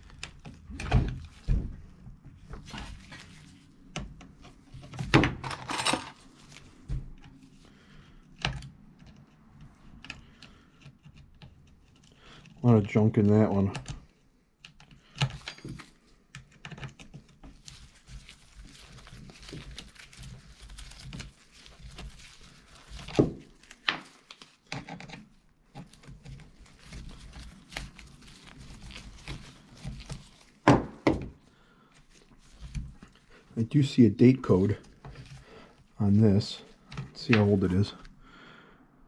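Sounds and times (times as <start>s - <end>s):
plastic body being handled: 0.0s - 7.6s, 12.7s - 38.2s.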